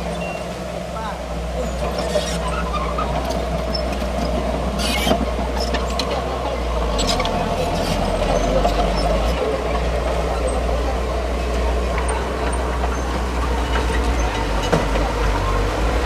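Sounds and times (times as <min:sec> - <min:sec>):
bulldozer diesel engine running: 0:00.0 - 0:16.0
tracks squeaking and clinking: 0:00.0 - 0:16.0.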